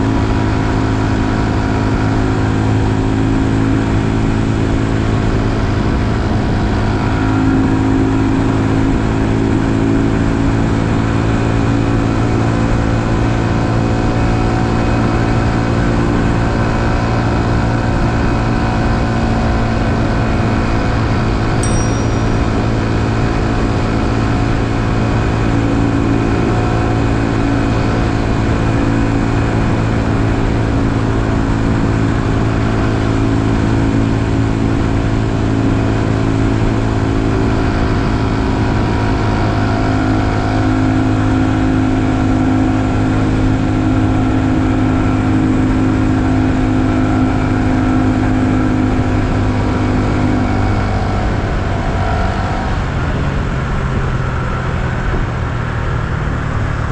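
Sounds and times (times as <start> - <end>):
wind and road noise: 0.0 - 56.9.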